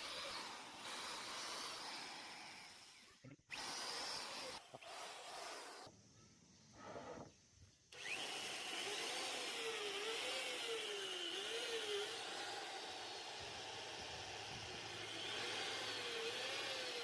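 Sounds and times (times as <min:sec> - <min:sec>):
power drill boring into wood: 0:00.0 - 0:05.9, 0:08.0 - 0:17.0.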